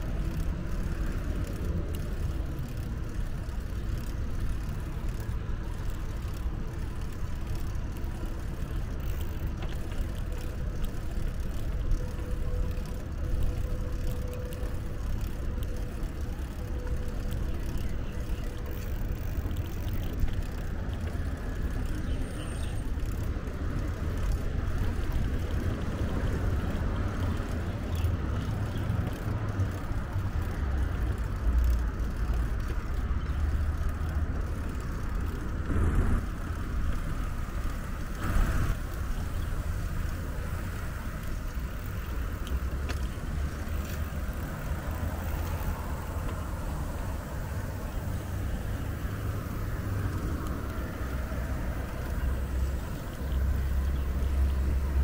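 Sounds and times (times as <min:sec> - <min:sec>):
bicycle tyre noise: 0:00.0 - 0:55.0
road traffic hum: 0:00.0 - 0:55.0.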